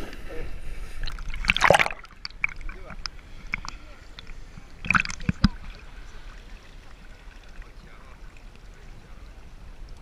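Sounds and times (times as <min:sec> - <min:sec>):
seawater sloshing: 0:00.0 - 0:09.6.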